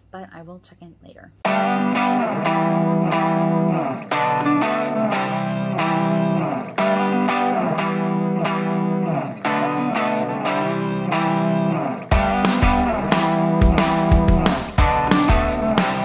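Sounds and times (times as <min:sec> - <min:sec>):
instrumental music with plucked chords: 0:01.5 - 0:16.0.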